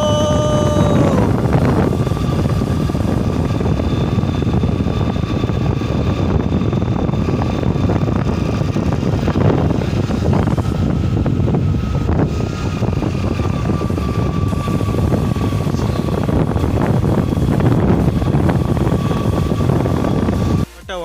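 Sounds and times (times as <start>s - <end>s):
faint steady whine: 0.0s - 21.0s
motorcycle engine: 0.0s - 21.0s
wind rush on microphone: 0.0s - 21.0s.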